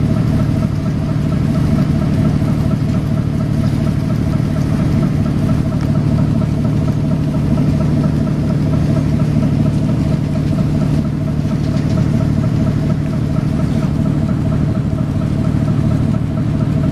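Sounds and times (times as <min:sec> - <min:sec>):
boat diesel engine droning: 0:00.0 - 0:16.9.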